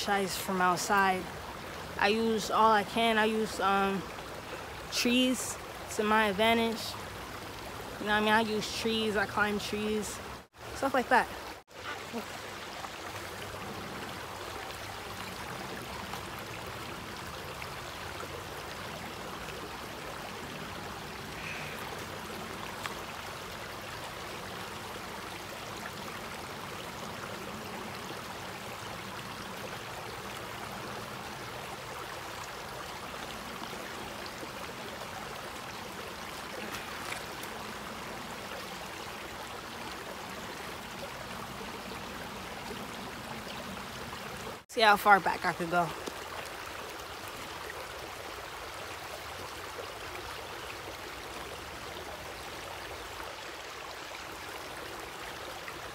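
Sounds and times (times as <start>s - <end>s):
stream water running over rocks: 0.0s - 55.9s.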